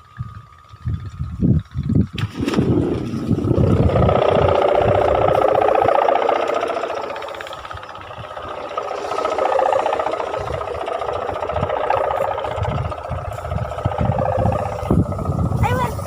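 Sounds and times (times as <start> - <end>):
kite hummers droning: 0.0 - 16.0
wind buffeting microphone: 0.0 - 16.0.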